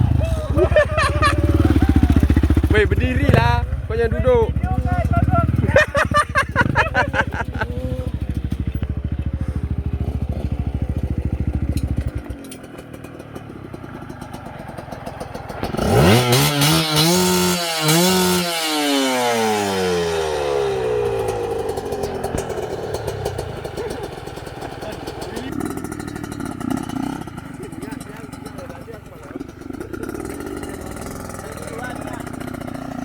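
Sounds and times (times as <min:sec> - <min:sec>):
motocross bike engine revving: 0:00.0 - 0:33.0.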